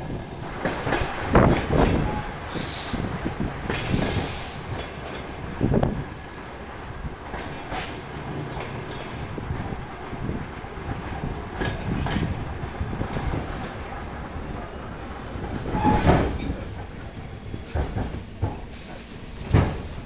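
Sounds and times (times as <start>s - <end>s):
train rumbling: 0.0s - 20.0s
wheel clacks over rail joints: 0.5s - 6.5s, 7.3s - 20.0s.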